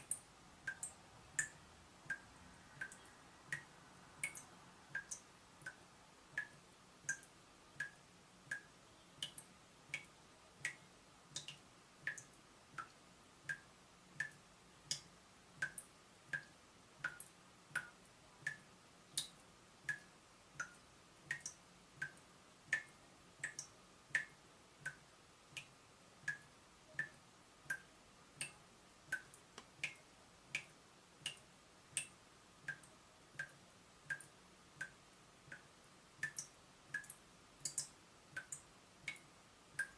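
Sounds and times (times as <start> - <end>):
water dripping from tap: 0.0 - 39.9.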